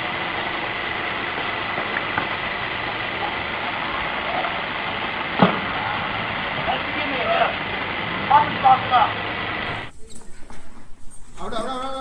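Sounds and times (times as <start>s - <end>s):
noisy background hum: 0.0s - 12.0s.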